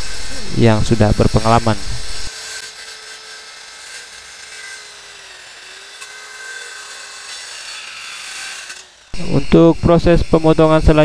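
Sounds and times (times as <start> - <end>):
circular saw cutting wood: 0.0 - 11.0.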